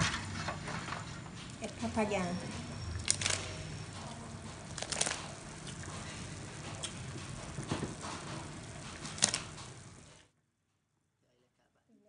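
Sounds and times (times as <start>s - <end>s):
broth boiling in metal pot: 0.0s - 10.3s.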